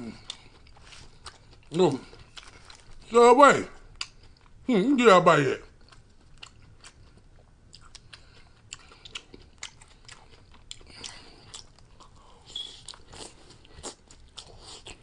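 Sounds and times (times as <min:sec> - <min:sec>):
man chewing salad: 0:00.0 - 0:03.1, 0:03.8 - 0:04.6, 0:05.6 - 0:15.0.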